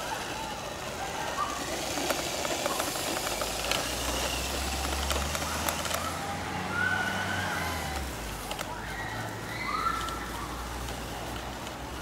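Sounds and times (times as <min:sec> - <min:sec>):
crackling clicks of leaves: 0:00.0 - 0:12.0
toy truck motor whirring: 0:00.0 - 0:12.0.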